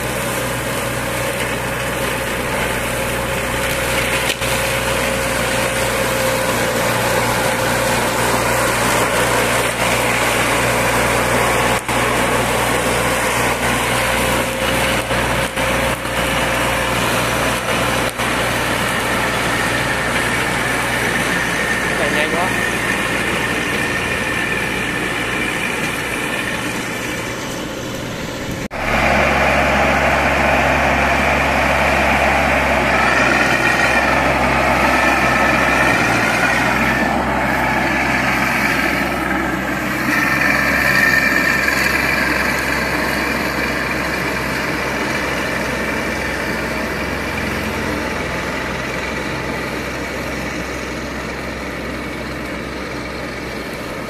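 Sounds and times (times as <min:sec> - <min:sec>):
ride-on mower engine: 0:00.0 - 0:54.0.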